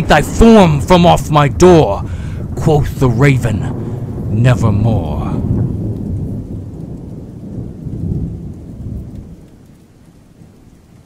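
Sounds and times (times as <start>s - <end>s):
rolling thunder: 0.0s - 11.0s.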